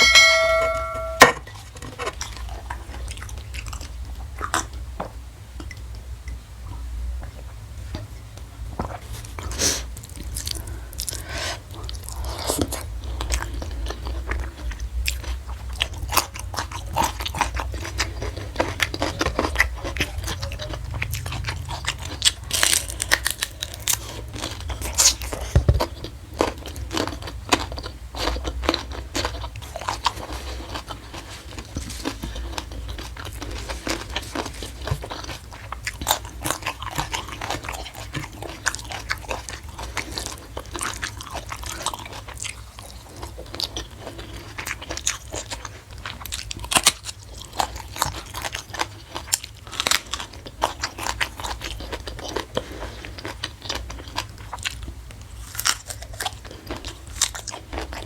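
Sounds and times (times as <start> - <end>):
person chewing and crunching food: 8.7 - 58.0.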